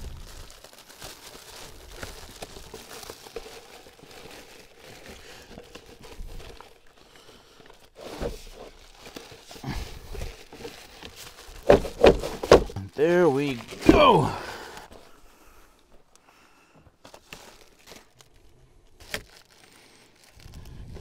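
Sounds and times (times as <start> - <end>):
plastic cover rustling and crinkling: 0.0 - 16.2, 16.8 - 21.0.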